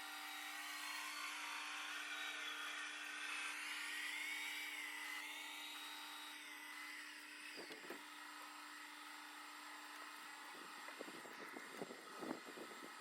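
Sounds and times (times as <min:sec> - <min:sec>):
electric motor whine: 0:00.0 - 0:13.0
model train hum: 0:00.0 - 0:13.0.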